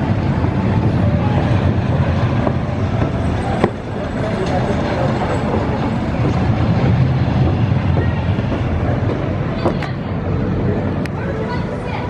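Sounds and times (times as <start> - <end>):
roller coaster train rumbling: 0.0 - 12.0.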